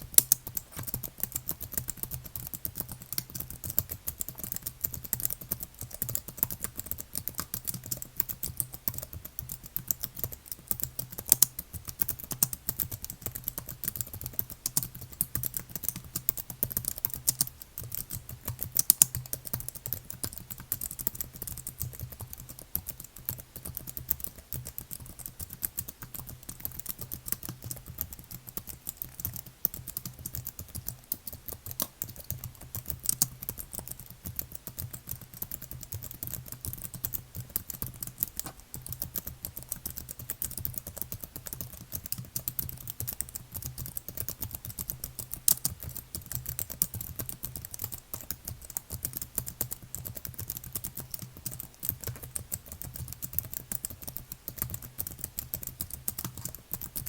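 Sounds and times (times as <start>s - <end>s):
keyboard typing: 0.0s - 57.0s.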